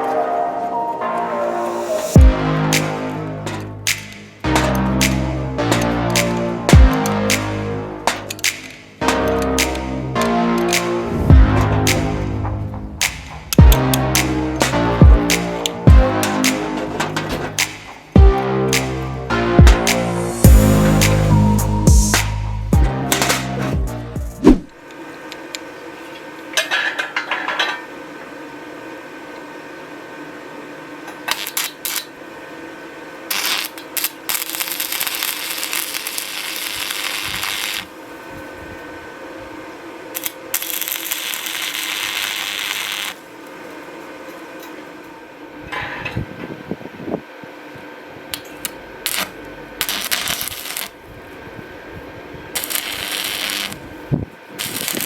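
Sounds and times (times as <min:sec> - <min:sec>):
steady hum: 0:00.0 - 0:25.9, 0:32.1 - 0:55.0.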